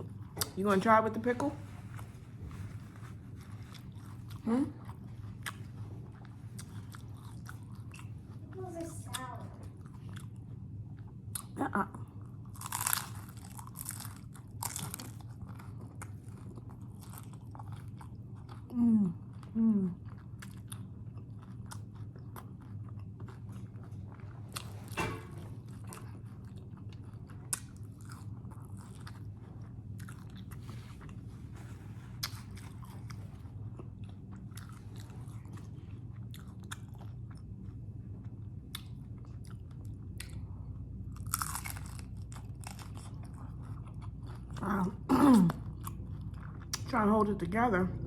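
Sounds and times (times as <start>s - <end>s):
chewing crunchy tacos: 1.6s - 46.9s.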